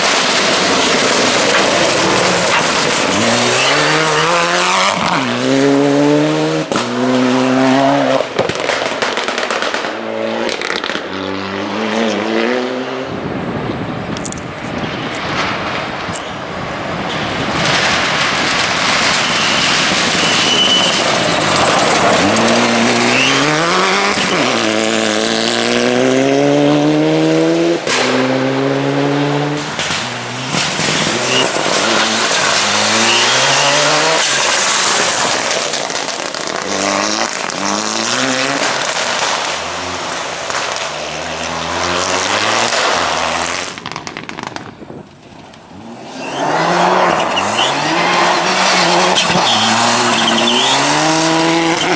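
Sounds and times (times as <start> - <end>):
rally car engine at full throttle: 0.0 - 8.7, 9.6 - 51.9.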